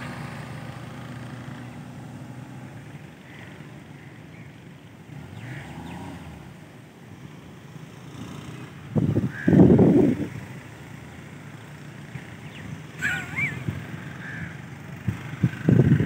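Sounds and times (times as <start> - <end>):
car engine driving away: 0.0 - 16.0.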